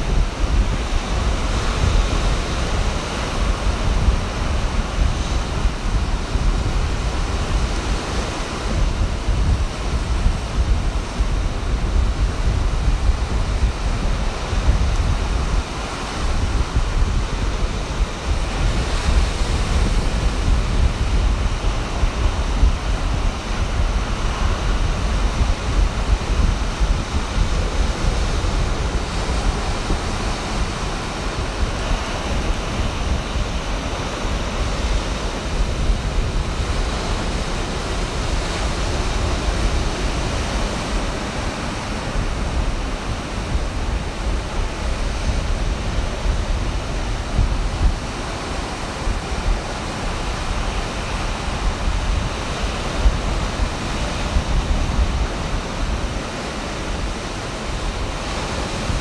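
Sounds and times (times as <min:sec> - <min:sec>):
ocean surf breaking: 0:00.0 - 0:59.0
wind on microphone: 0:00.0 - 0:59.0.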